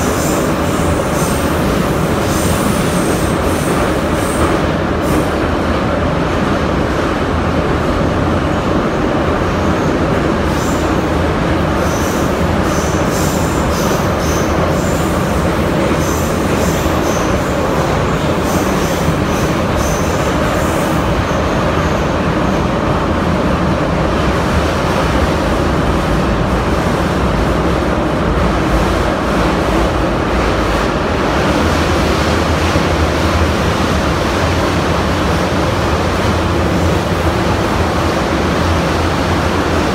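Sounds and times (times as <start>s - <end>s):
metro train running: 0.0s - 39.9s.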